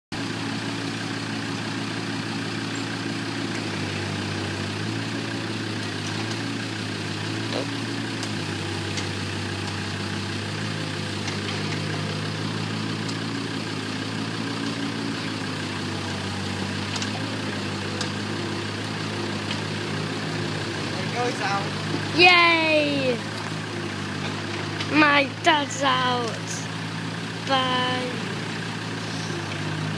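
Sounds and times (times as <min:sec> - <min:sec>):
vehicle engine running at low revs: 0:00.2 - 0:29.9.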